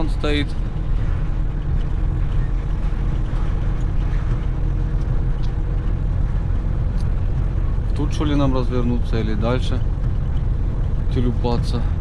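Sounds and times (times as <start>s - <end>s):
diesel truck engine hum: 0.0s - 12.0s.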